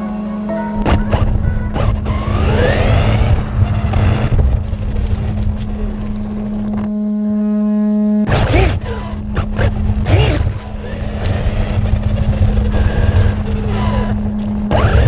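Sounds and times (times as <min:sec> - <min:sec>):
rumble of tyres and wind: 0:00.0 - 0:07.1, 0:08.2 - 0:15.0
electric rc car motor whine: 0:00.0 - 0:15.0.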